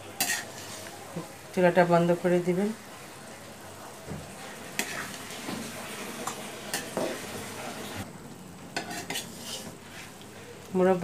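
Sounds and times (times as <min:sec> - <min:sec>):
syrup bubbling sizzle: 0:00.0 - 0:10.7.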